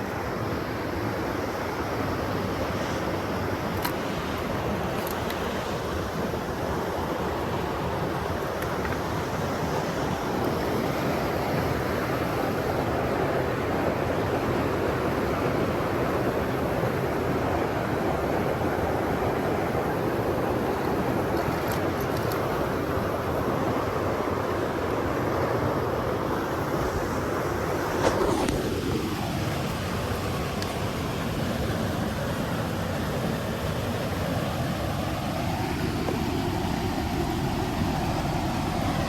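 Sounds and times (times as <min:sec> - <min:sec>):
mountain stream rushing: 0:00.0 - 0:39.0.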